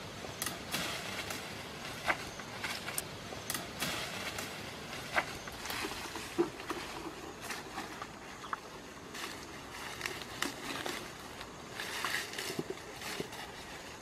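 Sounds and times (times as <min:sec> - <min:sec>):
rustling grass and undergrowth: 0:00.0 - 0:14.0.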